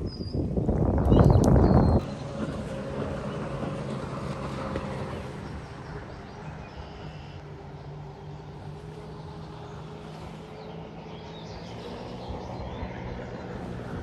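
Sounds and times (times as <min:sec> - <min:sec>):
distant engine hum: 0:00.8 - 0:14.0.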